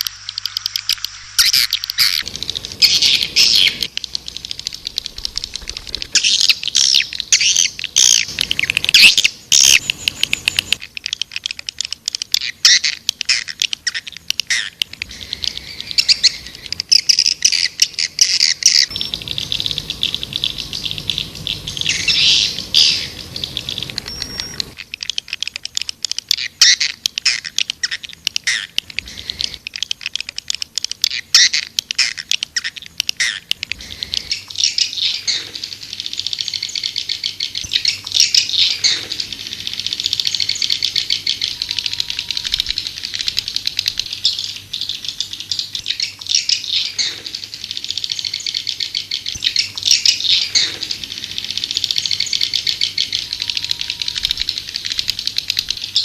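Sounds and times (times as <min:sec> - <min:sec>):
swiftlets twittering: 0:00.0 - 0:56.0.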